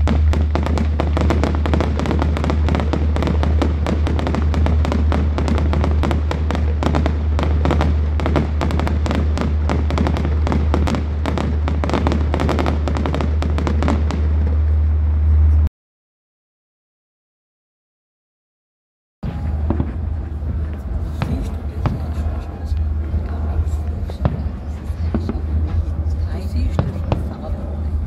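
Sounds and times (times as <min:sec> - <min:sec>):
fireworks crackling and banging: 0:00.0 - 0:15.6, 0:19.2 - 0:28.0
steady low hum: 0:00.0 - 0:15.7, 0:19.2 - 0:28.0.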